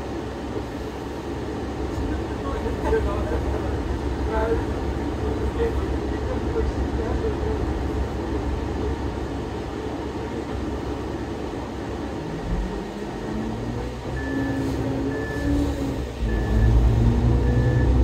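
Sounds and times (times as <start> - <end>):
bus engine idling and accelerating: 0.0 - 18.0.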